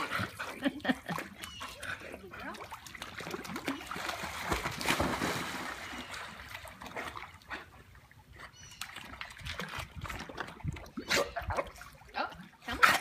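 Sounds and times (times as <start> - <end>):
dogs splashing in pool water: 0.0 - 13.0.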